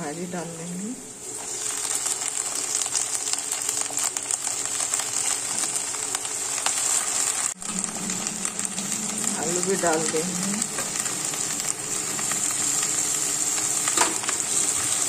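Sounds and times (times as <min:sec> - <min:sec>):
food sizzling and crackling in oil: 0:00.0 - 0:15.0.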